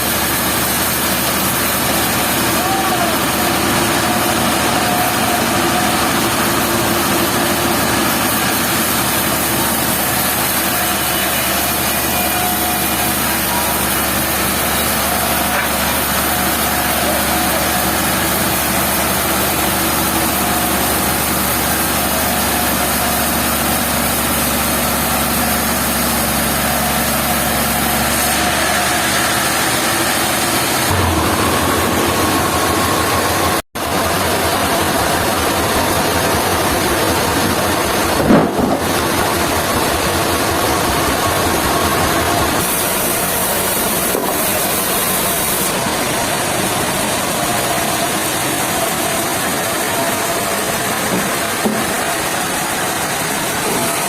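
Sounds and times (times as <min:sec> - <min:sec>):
engine-driven machinery running: 0:00.0 - 0:54.0.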